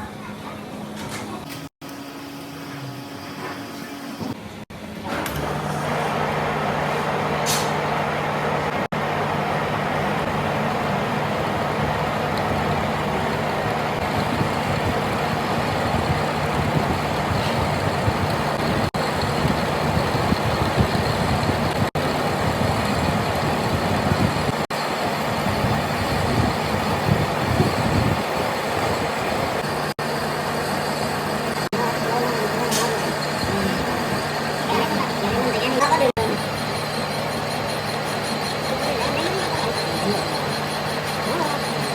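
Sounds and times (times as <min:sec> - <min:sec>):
workshop machinery running: 0:00.0 - 0:41.9.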